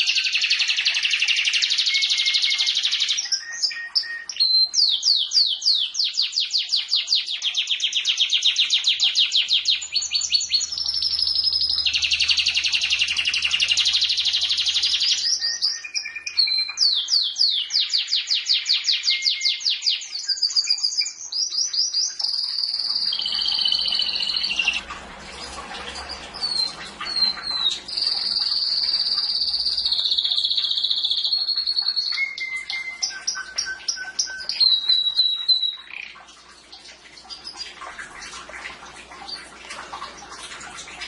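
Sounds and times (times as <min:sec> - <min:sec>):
canary singing: 0:00.0 - 0:36.3.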